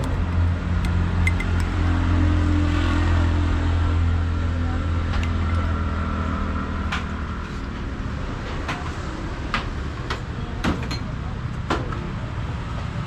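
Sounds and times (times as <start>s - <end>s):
vehicle engine hum: 0.0s - 10.6s.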